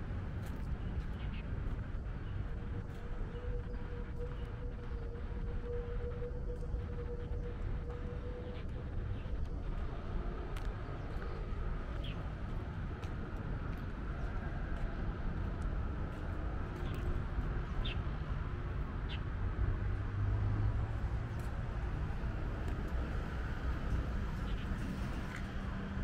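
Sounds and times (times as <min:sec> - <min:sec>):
distant road traffic: 0:00.0 - 0:26.0.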